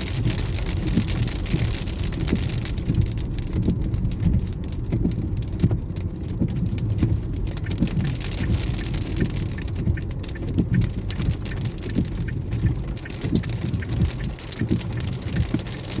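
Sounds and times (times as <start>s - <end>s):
hail and rain pelting: 0.0s - 16.0s
steady low rumble: 0.0s - 16.0s.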